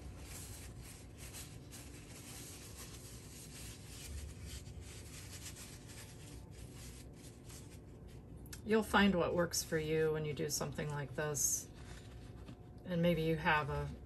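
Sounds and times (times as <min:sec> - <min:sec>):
paper towel rustling: 0:00.0 - 0:14.0.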